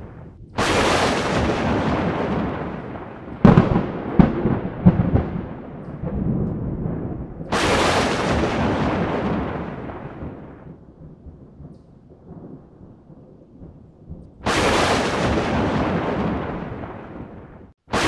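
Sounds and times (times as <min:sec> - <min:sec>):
thunderclaps cracking and rumbling: 0:00.0 - 0:18.0.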